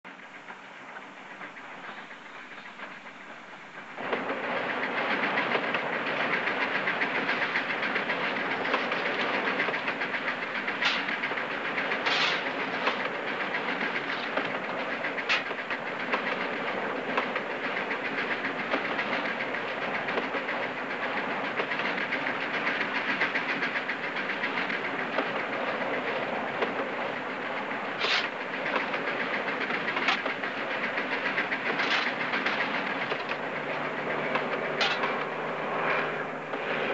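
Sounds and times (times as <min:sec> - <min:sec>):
steam train wheels clattering: 0:00.1 - 0:36.9.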